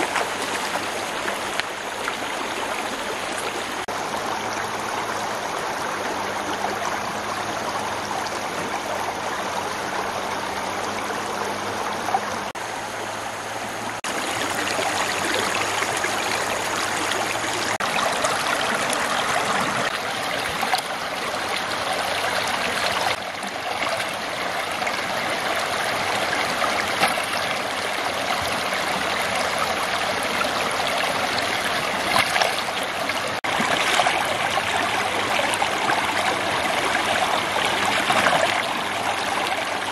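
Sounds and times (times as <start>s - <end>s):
stream rippling over stones: 0.0s - 39.9s.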